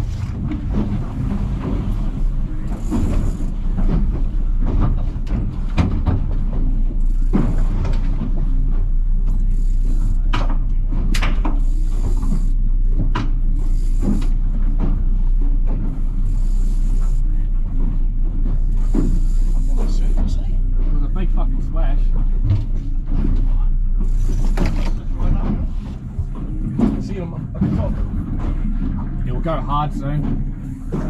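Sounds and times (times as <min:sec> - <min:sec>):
boat engine running: 0:00.0 - 0:31.0
water noise: 0:00.0 - 0:31.0
wind: 0:00.0 - 0:31.0.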